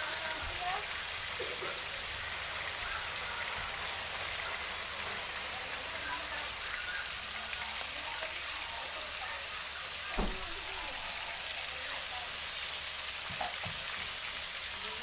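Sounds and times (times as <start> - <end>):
meat frying in a wok: 0.0 - 15.0.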